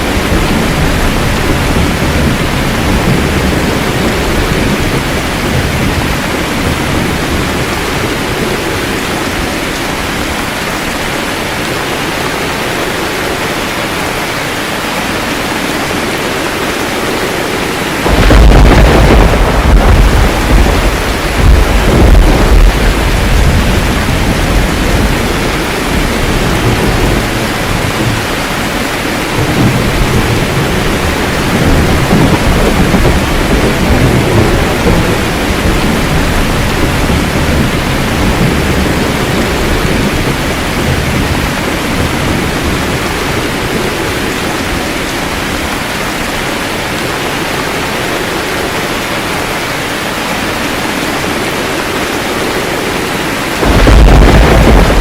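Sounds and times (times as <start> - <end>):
rolling thunder: 0.0 - 13.0, 15.3 - 44.8, 51.9 - 55.0
heavy rain: 0.0 - 55.0.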